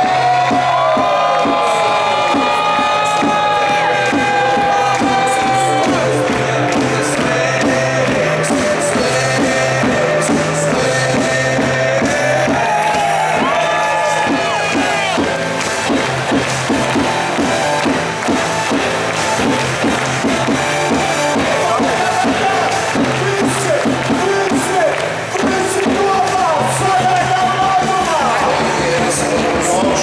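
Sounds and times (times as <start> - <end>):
crowd noise: 0.0 - 30.0
music with steady beat: 0.0 - 30.0.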